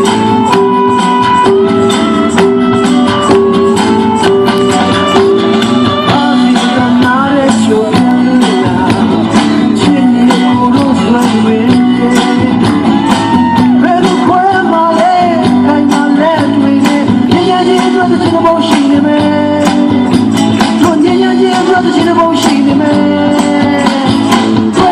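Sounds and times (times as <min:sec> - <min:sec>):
busy percussion rhythm: 0:00.0 - 0:24.9
upbeat music with guitar: 0:00.0 - 0:24.9
person singing: 0:02.3 - 0:24.9.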